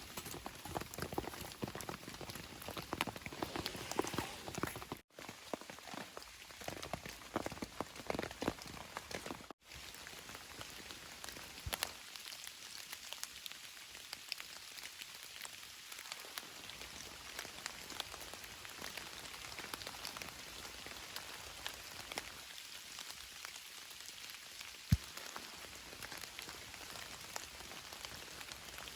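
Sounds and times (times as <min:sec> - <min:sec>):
steady rain with dripping: 0:05.1 - 0:28.9.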